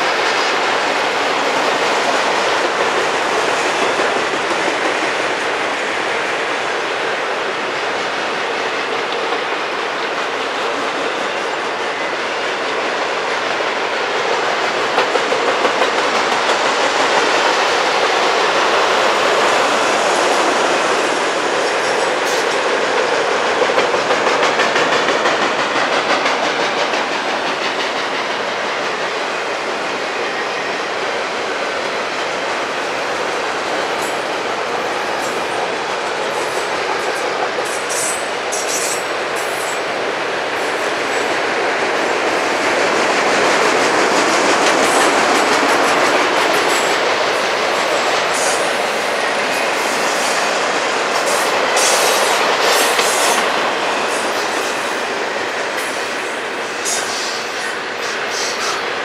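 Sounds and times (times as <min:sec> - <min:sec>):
train wheels clattering on rail: 0:00.0 - 0:59.0.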